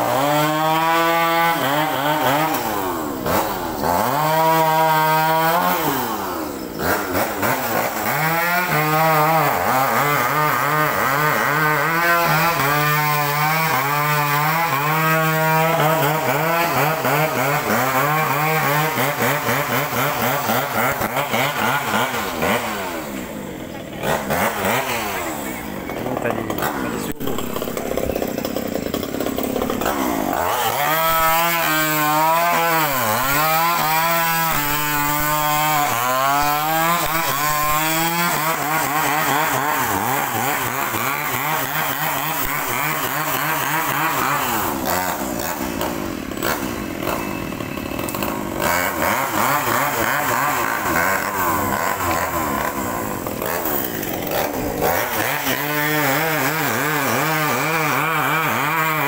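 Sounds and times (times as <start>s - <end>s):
chainsaw cutting wood: 0.0s - 59.0s
chainsaw engine revving: 0.0s - 59.0s.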